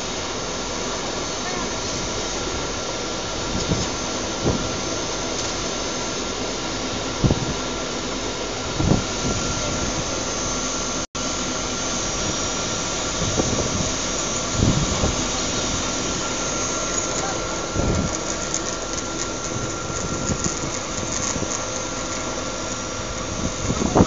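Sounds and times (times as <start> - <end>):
faint steady whine: 0.0 - 24.0
machinery running: 0.0 - 24.0.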